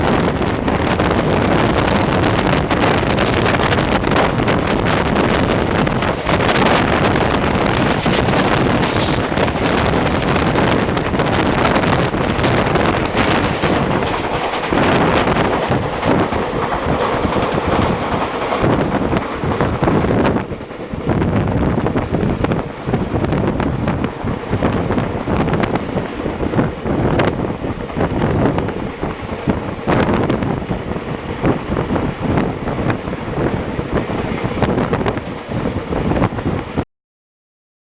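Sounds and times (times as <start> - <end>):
moving train running noise: 0.0 - 36.8
wind buffeting microphone: 0.0 - 36.8.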